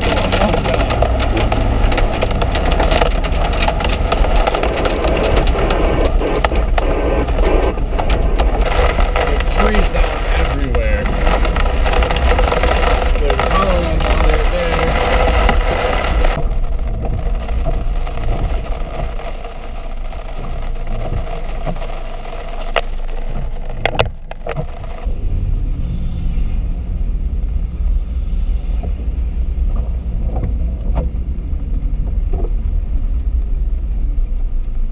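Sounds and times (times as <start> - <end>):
road and engine rumble: 0.0 - 34.9.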